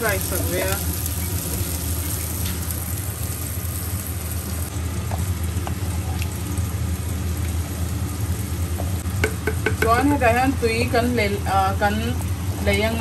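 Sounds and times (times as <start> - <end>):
curry sizzling in a pot: 0.0 - 13.0.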